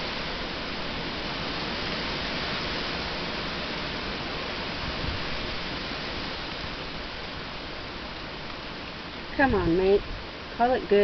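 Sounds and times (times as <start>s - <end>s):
rain: 0.0s - 11.0s
storm wind: 0.0s - 11.0s.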